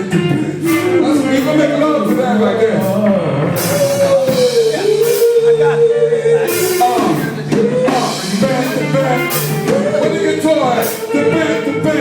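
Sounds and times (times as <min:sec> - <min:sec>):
electric bass: 0:00.0 - 0:12.0
electric guitar: 0:00.0 - 0:12.0
person singing: 0:00.0 - 0:12.0
drum kit with cymbal crashes: 0:00.4 - 0:11.2.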